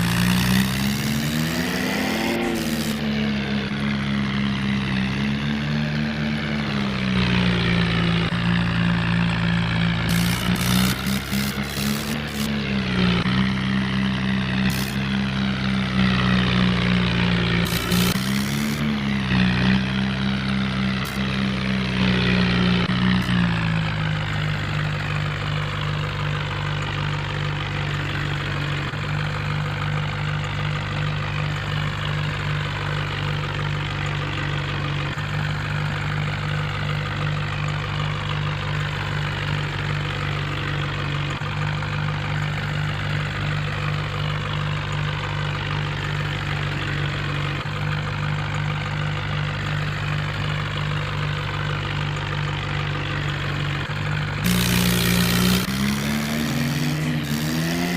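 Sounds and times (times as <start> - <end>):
toy tractor motor humming: 0.0 - 3.3, 7.4 - 23.5, 24.5 - 57.9.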